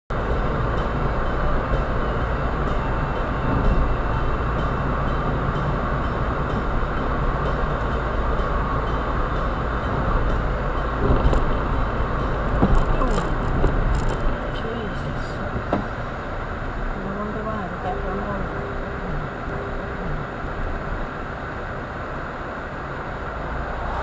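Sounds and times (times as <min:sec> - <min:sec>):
car driving rumble: 0:00.1 - 0:24.0.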